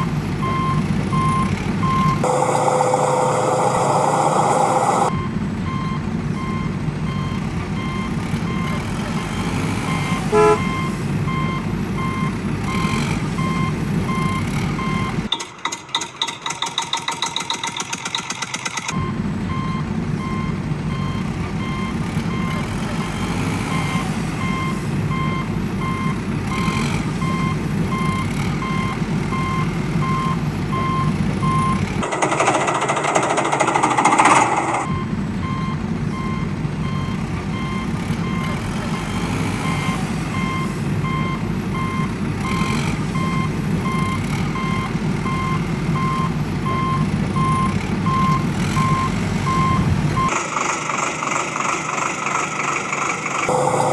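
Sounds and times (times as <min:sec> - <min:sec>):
reversing alarm beeping: 0:00.0 - 0:15.3, 0:18.9 - 0:50.4, 0:53.5 - 0:53.9
diesel engine rumble: 0:00.0 - 0:15.4, 0:18.9 - 0:53.9.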